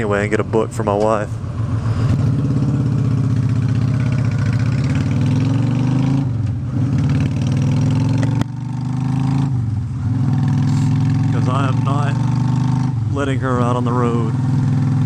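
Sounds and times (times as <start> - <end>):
motorcycle exhaust while riding: 0.0 - 15.0.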